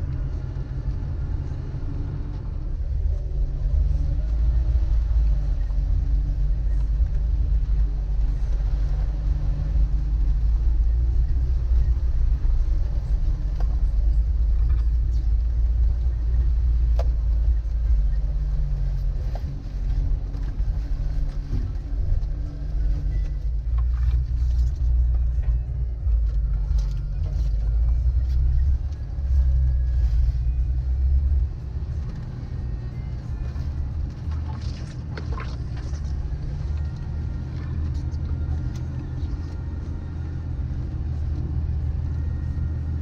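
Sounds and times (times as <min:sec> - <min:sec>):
car engine rumbling: 0:00.0 - 0:43.0.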